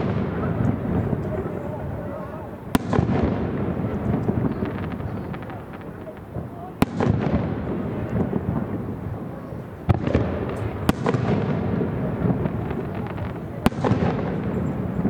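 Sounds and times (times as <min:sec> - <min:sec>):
fireworks bursting and crackling: 0:00.0 - 0:15.0
low rumble of fireworks: 0:00.0 - 0:15.0.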